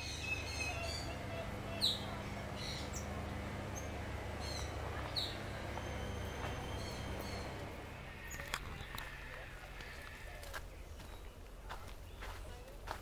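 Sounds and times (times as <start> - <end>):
birds chirping: 0.0 - 13.0
steady low rumble: 0.4 - 13.0.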